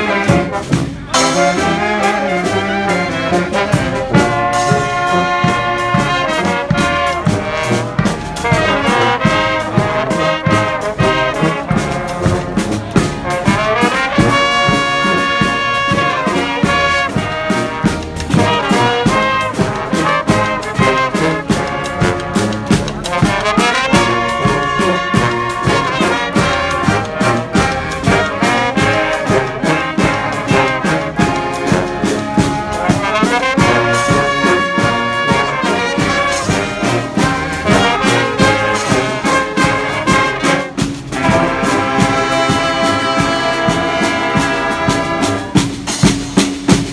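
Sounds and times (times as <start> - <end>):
brass band playing: 0.0 - 46.9
steady drum beat: 0.0 - 46.9.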